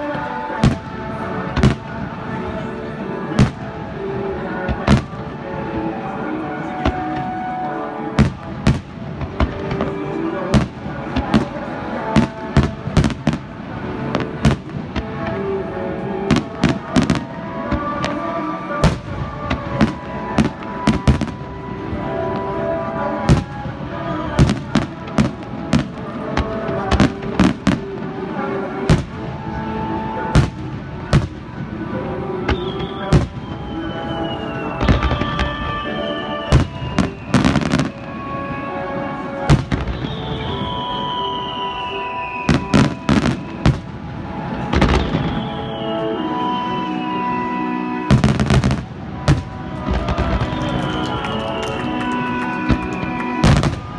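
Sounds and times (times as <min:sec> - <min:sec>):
music playing: 0:00.0 - 0:53.9.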